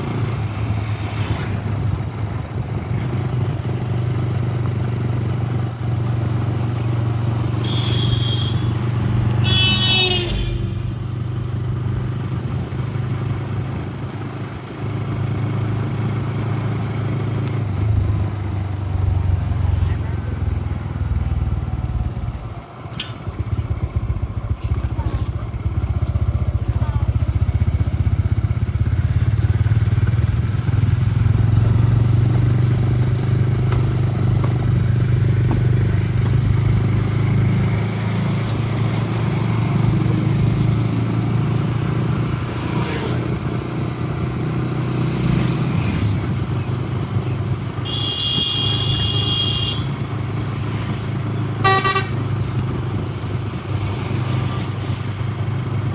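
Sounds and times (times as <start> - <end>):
road noise: 0.0 - 55.9
vehicle engine running: 1.8 - 55.9.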